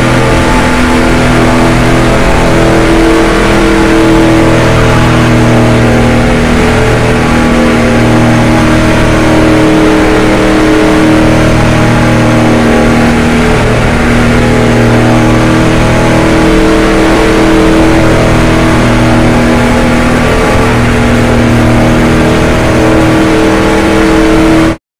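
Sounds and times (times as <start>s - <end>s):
race car engine running hard: 0.0s - 24.8s.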